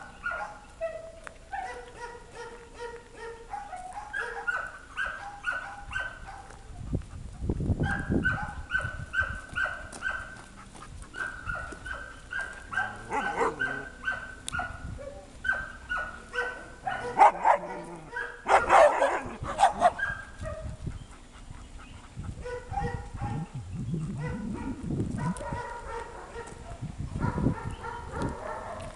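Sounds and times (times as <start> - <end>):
dogs barking and yelping: 0.0 - 28.9.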